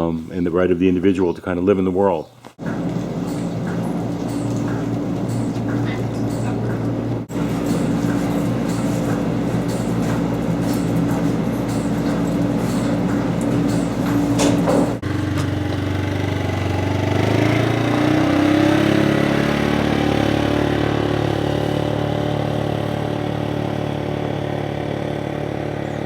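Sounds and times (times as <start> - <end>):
engine running: 2.6 - 26.0.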